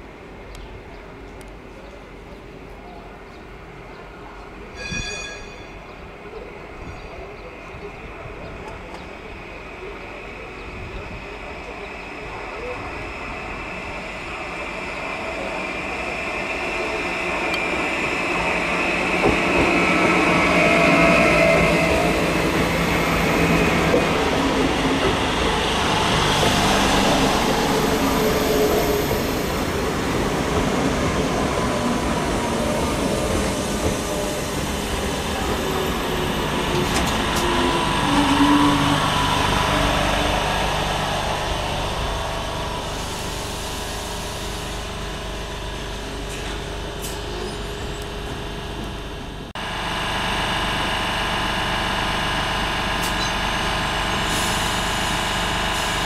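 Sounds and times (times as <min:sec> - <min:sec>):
train whining: 0:00.2 - 0:56.0
train wheels rumbling on rails: 0:00.4 - 0:56.0.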